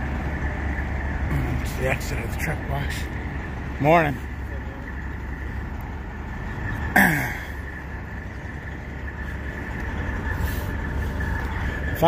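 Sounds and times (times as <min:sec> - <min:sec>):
trucks idling: 0:00.0 - 0:12.0.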